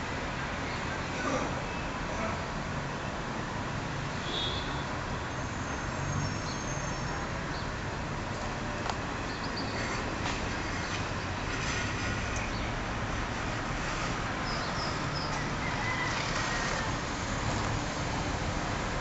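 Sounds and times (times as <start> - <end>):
low rumble of distant traffic: 0.0 - 19.0.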